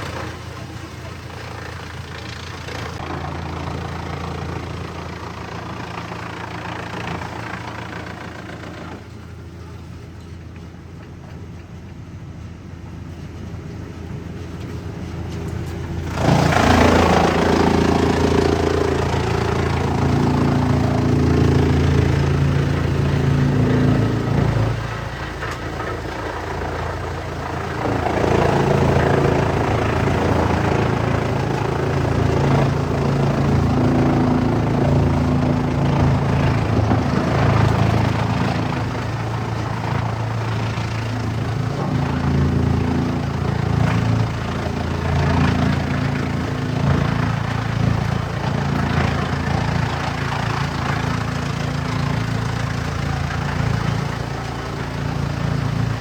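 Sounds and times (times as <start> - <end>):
wood chipper engine running: 0.0 - 11.4, 13.0 - 56.0.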